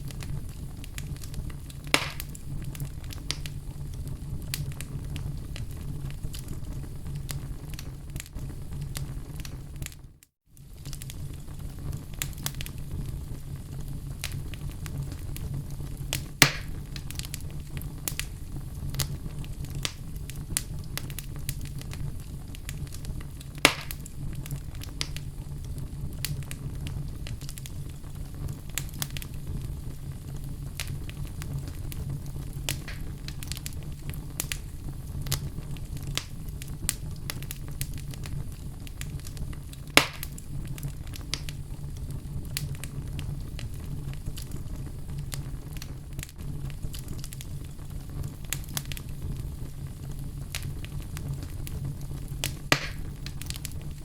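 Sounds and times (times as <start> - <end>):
fire crackling: 0.0 - 54.0
fire flame rumble: 0.0 - 54.0
fire popping: 0.0 - 54.0.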